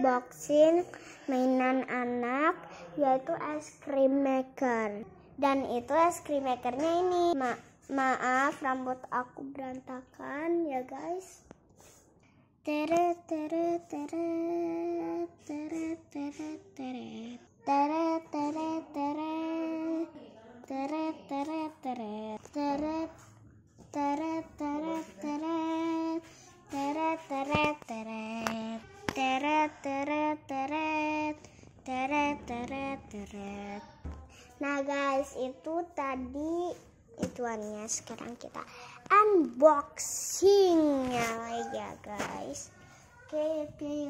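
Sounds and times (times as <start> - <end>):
girl singing unaccompanied: 0.0 - 12.0, 12.6 - 44.0.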